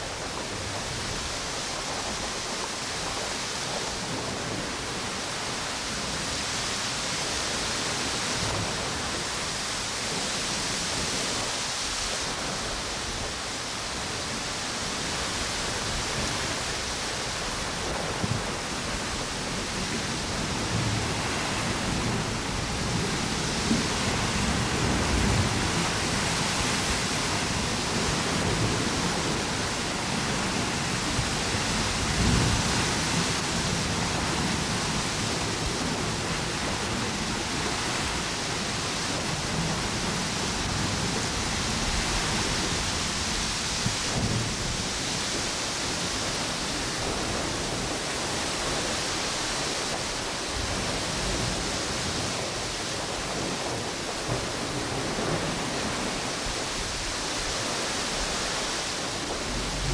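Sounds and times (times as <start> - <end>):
ocean waves washing onto beach: 0.0 - 59.9
strong wind through trees: 0.0 - 59.9.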